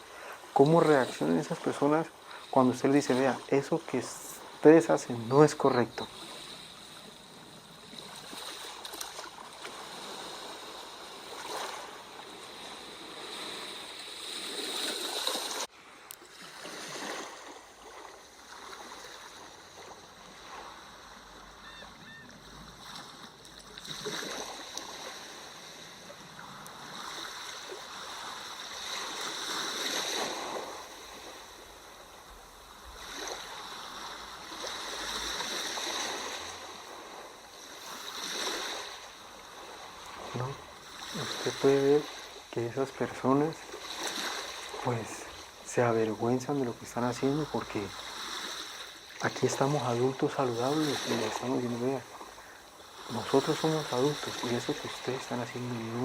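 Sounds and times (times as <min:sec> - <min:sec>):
ocean waves washing ashore: 0:00.0 - 0:56.0.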